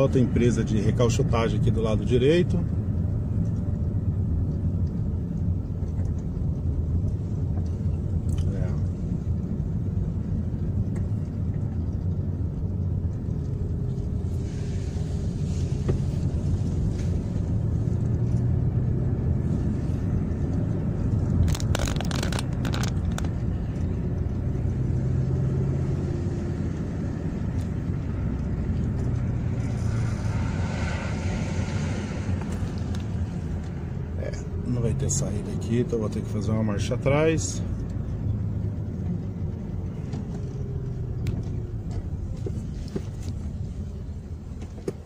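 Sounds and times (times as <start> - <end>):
car engine hum: 0.0 - 45.0
road noise: 0.0 - 45.0.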